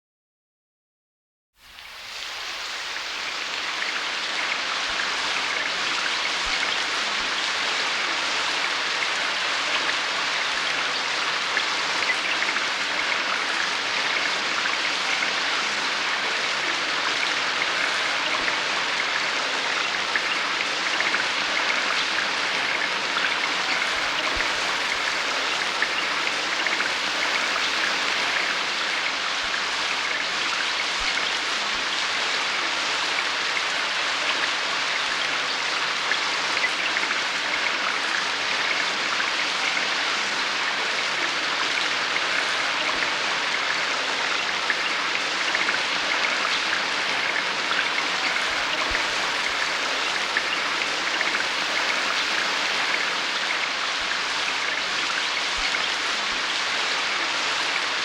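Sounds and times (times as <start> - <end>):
steady rainfall: 1.6 - 58.0.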